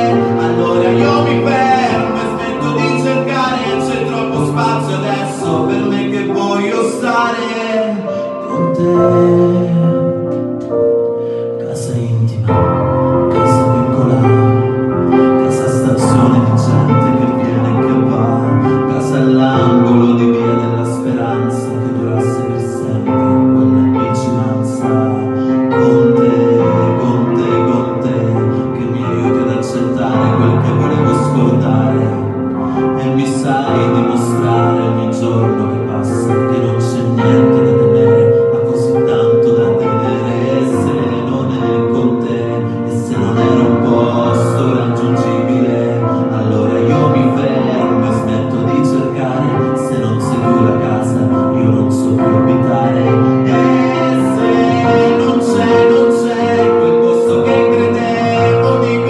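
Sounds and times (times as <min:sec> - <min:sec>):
backing music: 0:00.0 - 0:59.0
man singing into microphone: 0:00.0 - 0:59.0.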